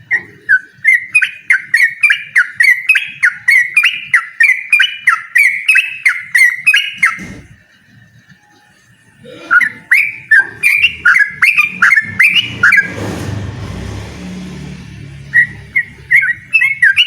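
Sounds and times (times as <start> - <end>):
bird singing rapid loud notes: 0.0 - 7.7, 9.2 - 17.0.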